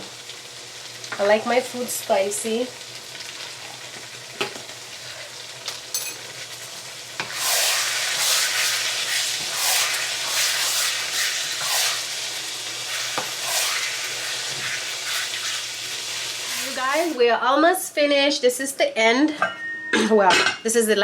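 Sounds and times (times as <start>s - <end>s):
onions sizzling in a pan: 0.0s - 17.9s.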